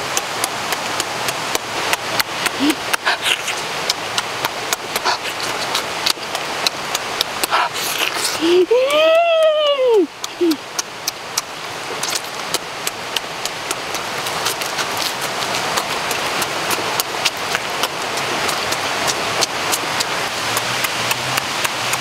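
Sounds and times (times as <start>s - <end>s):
steady hiss: 0.0s - 22.0s
wet lip-smacking and chewing: 0.0s - 22.0s.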